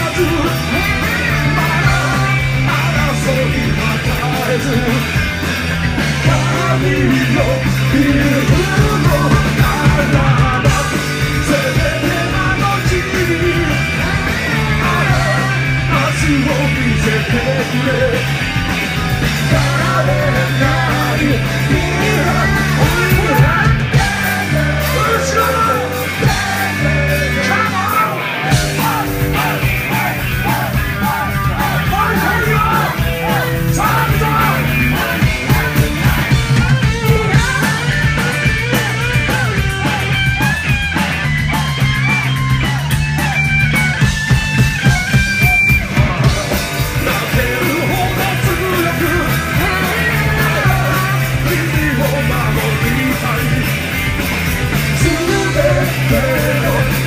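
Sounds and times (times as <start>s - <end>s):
punk rock band playing: 0.0s - 57.0s.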